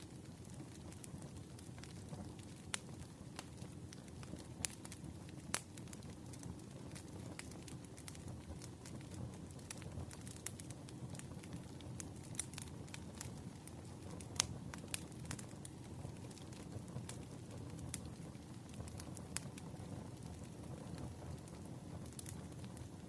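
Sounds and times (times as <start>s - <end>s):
fire crackling and popping: 0.0s - 23.0s
low rumble of flame: 0.0s - 23.0s.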